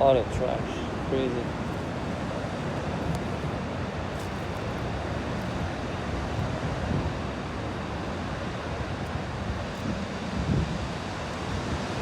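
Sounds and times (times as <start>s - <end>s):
ocean surf washing on beach: 0.0s - 12.0s
wind buffeting microphone: 0.0s - 12.0s.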